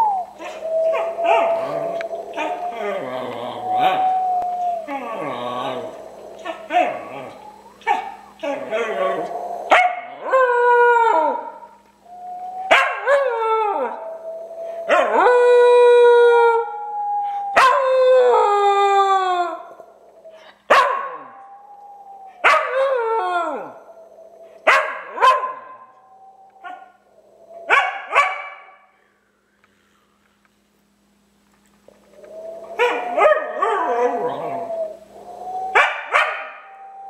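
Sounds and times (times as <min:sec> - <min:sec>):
dog howling: 0:00.0 - 0:28.8, 0:32.0 - 0:37.0.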